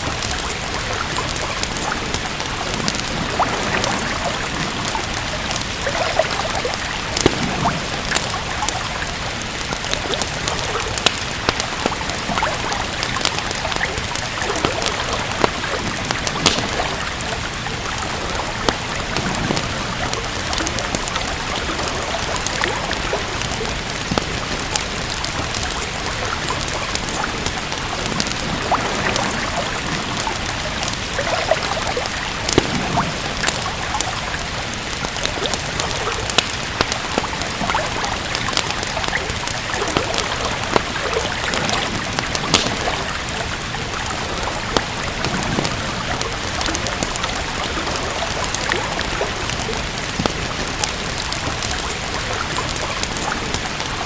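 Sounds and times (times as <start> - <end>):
steady rain: 0.0 - 54.0
wood fire crackling: 0.0 - 54.0.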